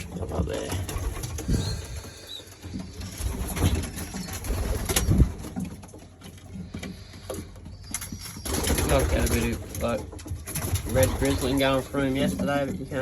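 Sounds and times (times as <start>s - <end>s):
pigeons cooing: 0.0s - 5.9s, 6.5s - 13.0s.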